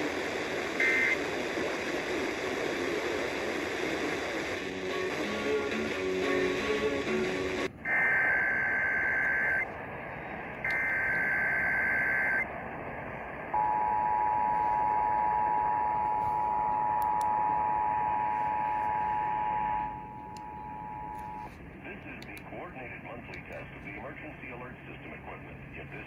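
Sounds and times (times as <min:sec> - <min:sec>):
radio hiss: 0:00.0 - 0:26.0.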